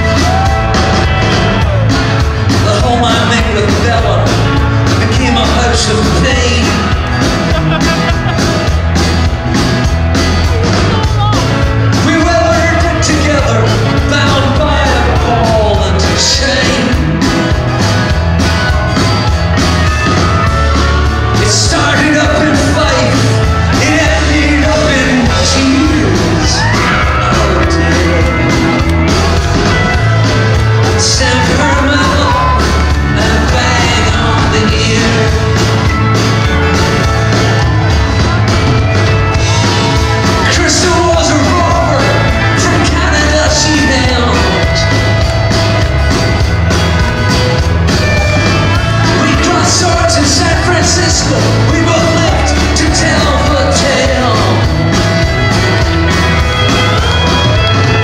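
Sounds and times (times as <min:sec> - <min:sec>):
acoustic and electric guitars: 0:00.0 - 0:58.0
drums: 0:00.0 - 0:58.0.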